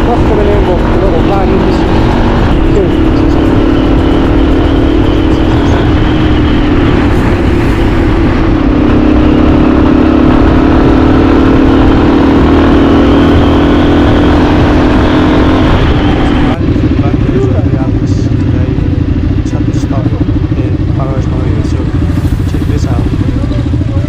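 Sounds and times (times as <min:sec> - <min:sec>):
motorcycle engine running: 0:00.0 - 0:24.0
wind rumble on microphone: 0:00.0 - 0:24.0.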